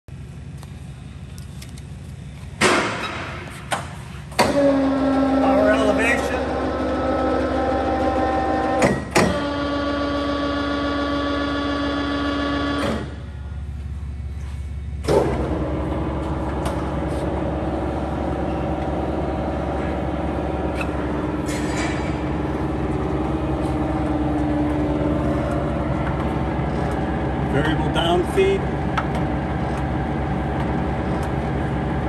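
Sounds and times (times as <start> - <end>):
low machine hum: 0.1 - 32.0.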